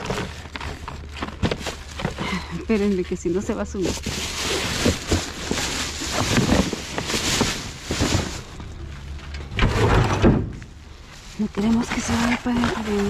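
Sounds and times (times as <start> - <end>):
trash bags and cardboard rustling: 0.0 - 13.0.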